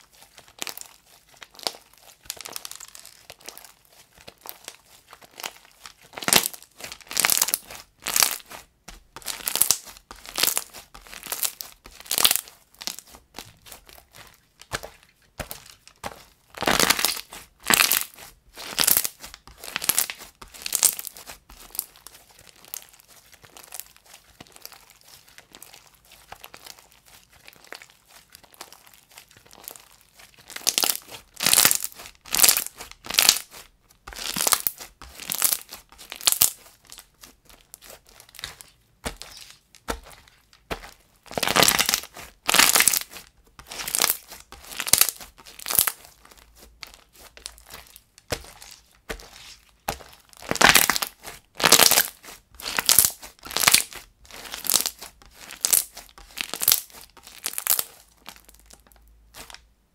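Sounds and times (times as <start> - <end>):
slime squishing: 0.0 - 59.7.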